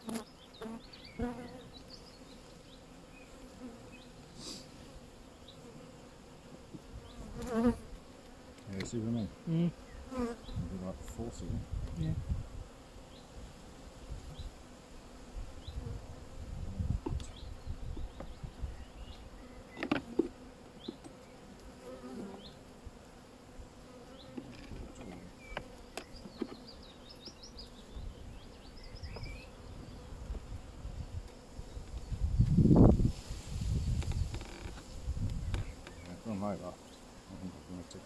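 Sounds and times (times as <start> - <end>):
honeybees buzzing: 0.0 - 38.0.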